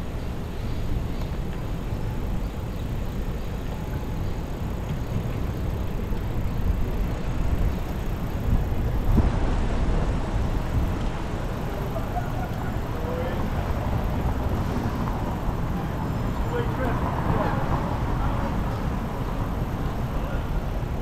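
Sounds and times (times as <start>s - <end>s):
road noise: 0.0s - 21.0s
wind rumbling on microphone: 0.0s - 21.0s.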